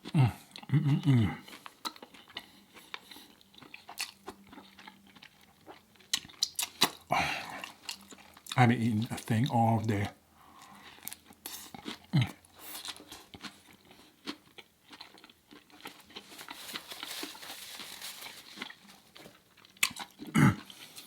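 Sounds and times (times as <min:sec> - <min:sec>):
biting and chewing a burger: 0:00.0 - 0:21.0.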